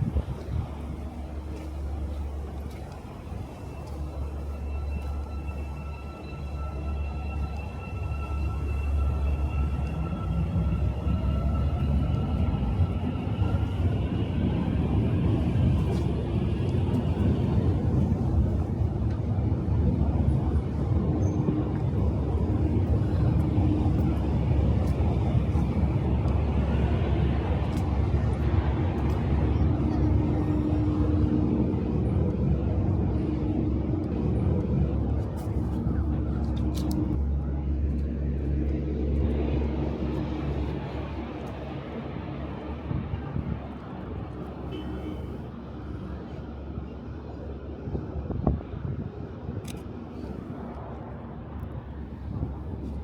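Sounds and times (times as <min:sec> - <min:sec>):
metro train rumble: 0:00.0 - 0:53.0.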